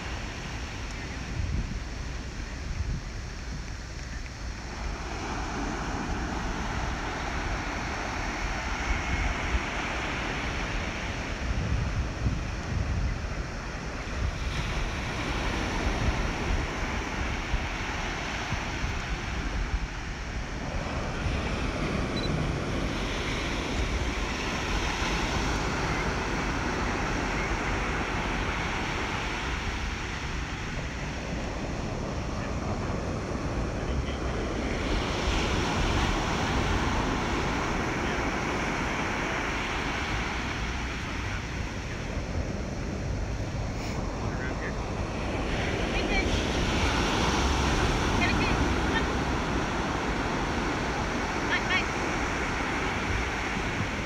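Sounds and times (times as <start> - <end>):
sea surf: 0.0 - 54.0
wind buffeting the microphone: 0.0 - 54.0.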